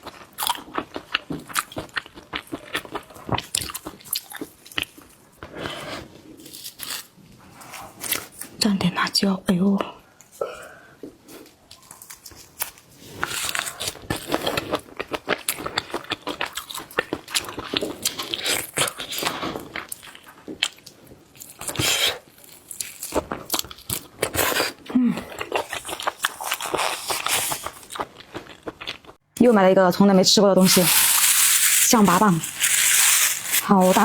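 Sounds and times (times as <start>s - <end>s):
crunchy shrimp being chewed: 0.0s - 8.5s, 11.0s - 29.2s, 30.6s - 34.0s.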